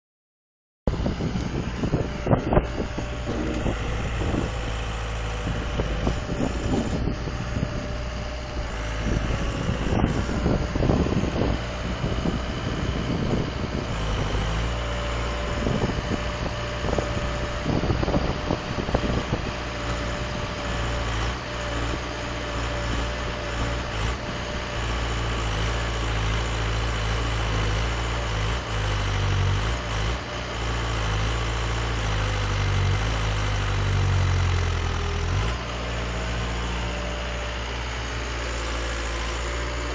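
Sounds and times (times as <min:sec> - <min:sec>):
excavator diesel engine running: 0:00.9 - 0:39.9.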